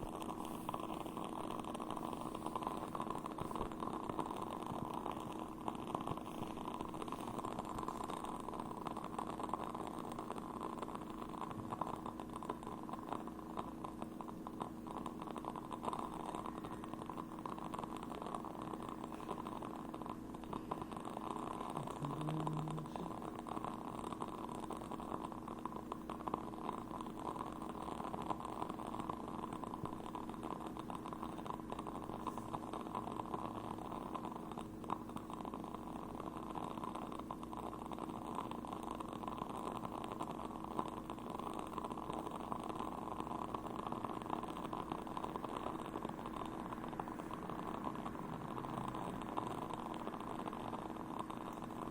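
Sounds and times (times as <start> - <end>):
candles crackling: 0.0 - 51.9
steady low hum: 0.0 - 51.9.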